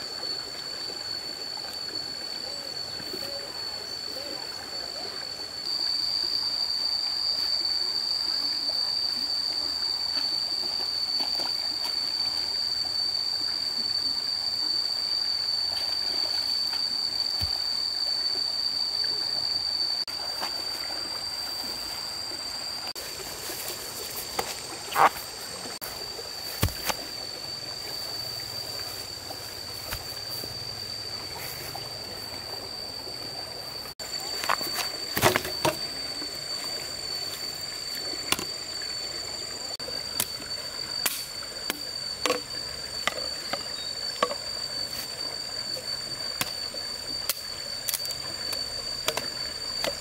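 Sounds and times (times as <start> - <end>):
stream water noise: 0.0 - 50.0.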